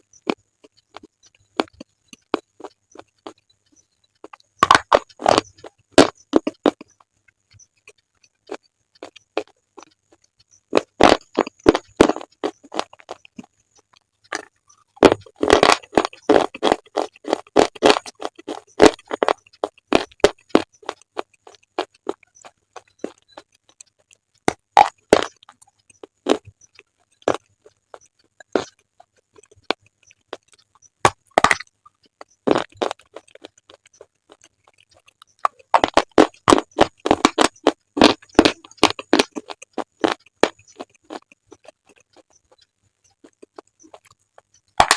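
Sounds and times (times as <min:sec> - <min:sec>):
slate being chewed crunching: 0:00.1 - 0:44.9.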